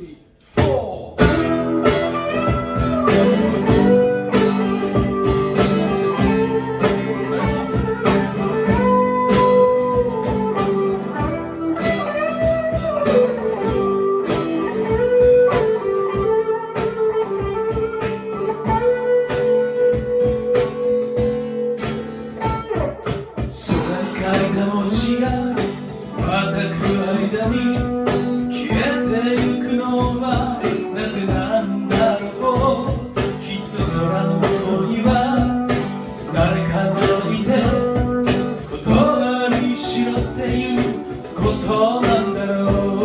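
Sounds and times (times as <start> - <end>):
strummed guitar rhythm: 0.4 - 43.0
bending lead melody: 1.2 - 43.0.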